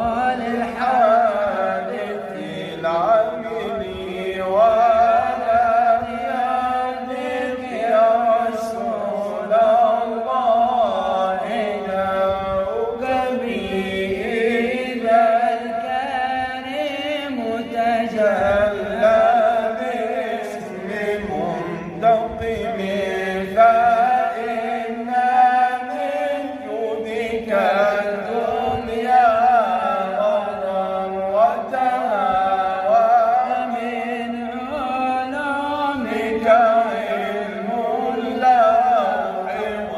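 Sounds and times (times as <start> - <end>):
man chanting: 0.0 - 39.9.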